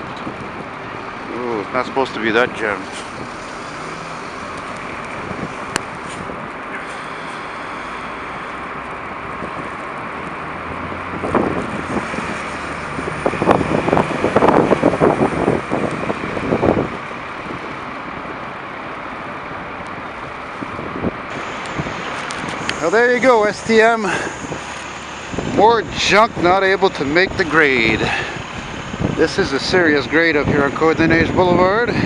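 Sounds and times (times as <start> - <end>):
street traffic: 0.0 - 32.0
wind buffeting microphone: 0.0 - 32.0.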